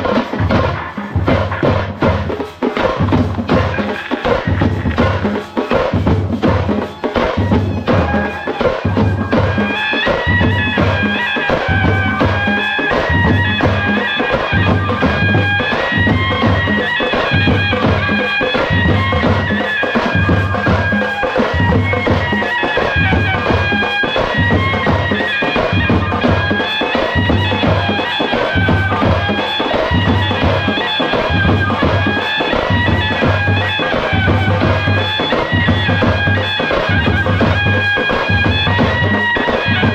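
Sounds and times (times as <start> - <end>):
steady drum beat: 0.0 - 39.9
shrill double-reed pipe melody: 3.4 - 39.9.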